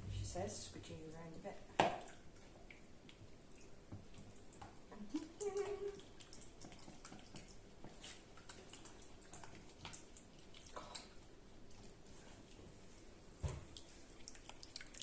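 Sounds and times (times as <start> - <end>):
utensil squelching mixture in bowl: 0.4 - 15.0.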